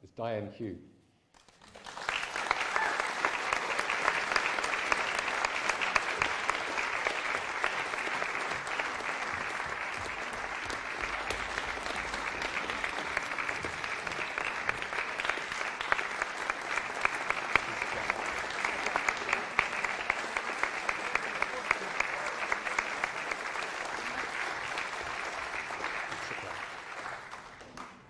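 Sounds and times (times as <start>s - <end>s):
audience applauding: 1.3s - 28.0s.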